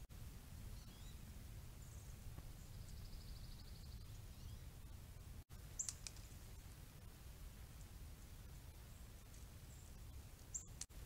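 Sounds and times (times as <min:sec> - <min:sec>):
low wind rumble: 0:00.0 - 0:11.0
songbird chirps and trill: 0:00.0 - 0:11.0.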